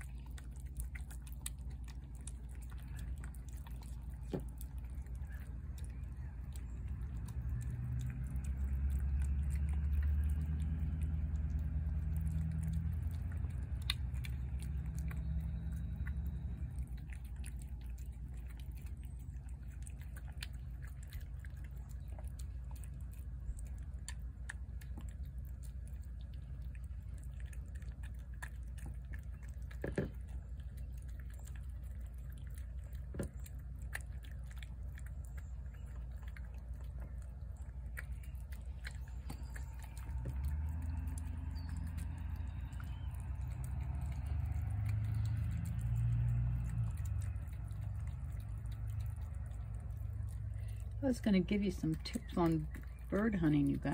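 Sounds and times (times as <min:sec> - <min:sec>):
cat chewing and lapping food: 0:00.0 - 0:53.9
low steady hum: 0:00.0 - 0:53.9.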